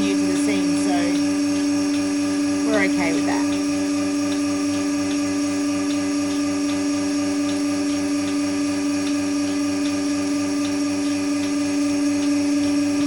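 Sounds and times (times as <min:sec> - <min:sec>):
milking machine droning and pulsing: 0:00.0 - 0:13.0.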